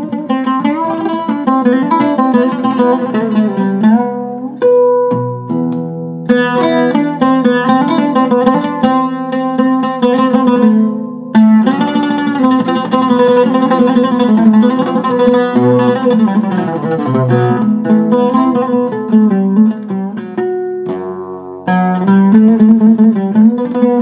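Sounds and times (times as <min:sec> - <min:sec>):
oud plucked notes: 0:00.0 - 0:24.0.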